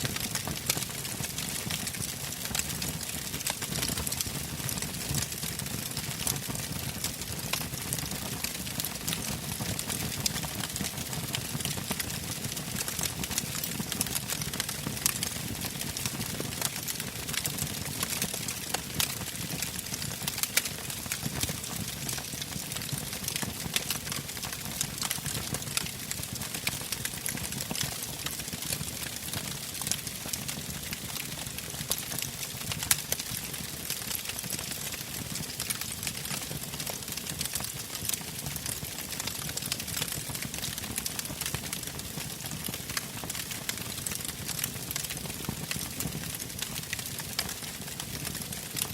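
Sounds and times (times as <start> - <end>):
burning logs crackling and popping: 0.0 - 48.9.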